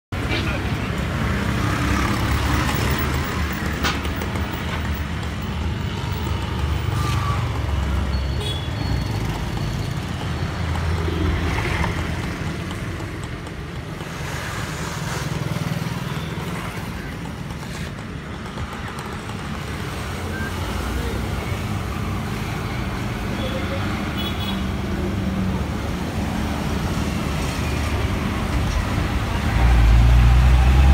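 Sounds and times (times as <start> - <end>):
road traffic rumble: 0.1 - 30.9.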